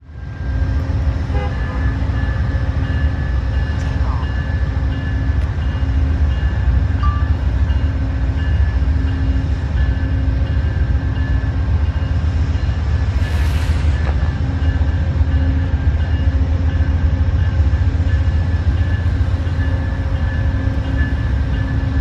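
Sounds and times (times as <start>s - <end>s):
diesel locomotive rumble: 0.0s - 22.0s.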